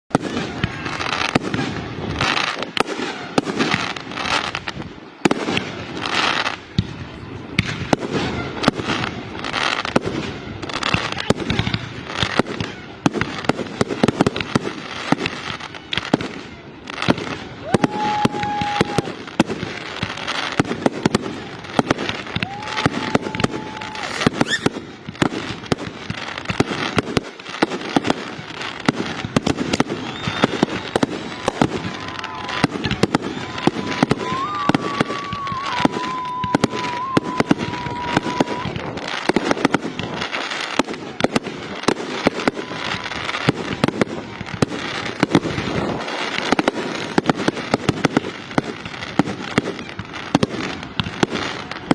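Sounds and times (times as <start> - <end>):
fireworks bangs and crackles: 0.1 - 51.9
fireworks whistling: 0.1 - 51.9.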